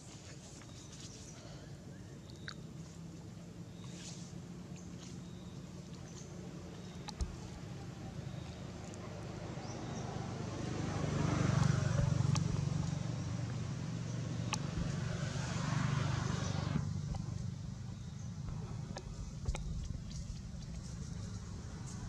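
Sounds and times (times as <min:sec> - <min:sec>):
traffic engine hum: 0:01.4 - 0:22.0.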